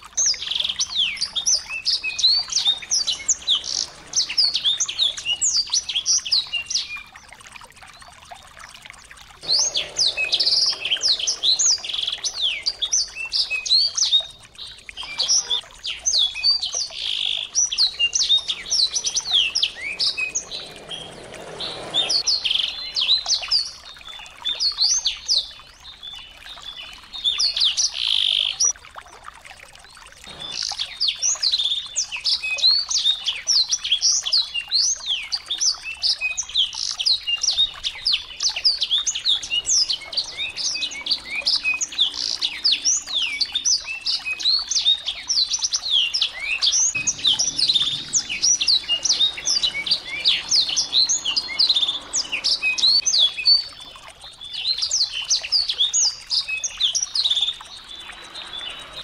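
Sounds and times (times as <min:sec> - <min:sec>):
songbirds chirping: 0:00.0 - 0:28.8, 0:30.0 - 0:59.0.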